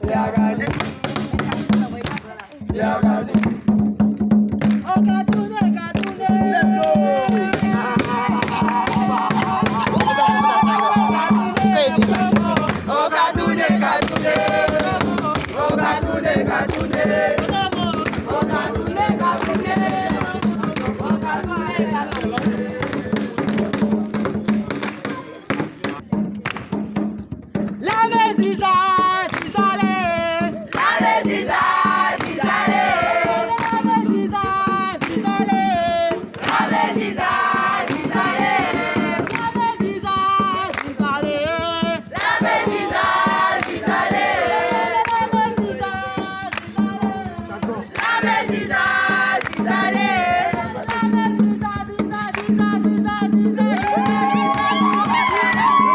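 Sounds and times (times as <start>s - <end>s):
group of voices singing: 0.0s - 4.2s, 4.8s - 24.1s, 27.8s - 55.9s
sharp claps or drum strokes: 0.0s - 55.9s.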